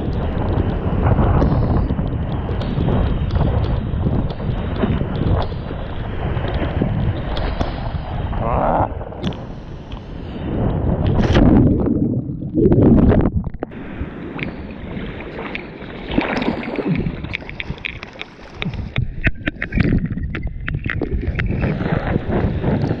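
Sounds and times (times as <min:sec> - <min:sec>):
water clicking against camera: 0:00.0 - 0:08.1, 0:08.8 - 0:14.6, 0:15.3 - 0:23.0
surf rushing and splashing: 0:00.0 - 0:23.0
wind buffeting microphone: 0:00.0 - 0:23.0.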